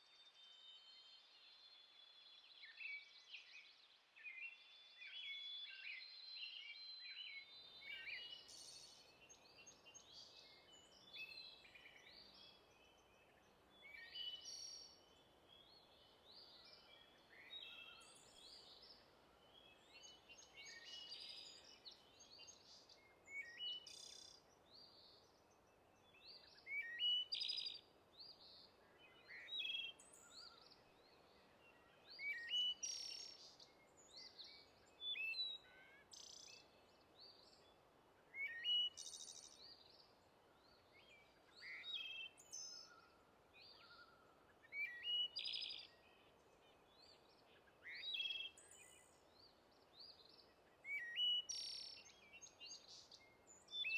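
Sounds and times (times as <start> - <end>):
songbirds chirping and singing: 2.3 - 53.9.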